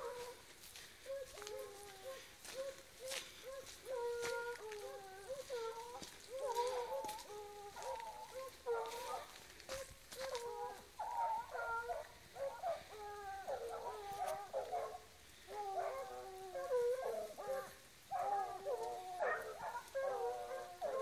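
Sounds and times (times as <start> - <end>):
hunting dogs baying: 0.0 - 21.0.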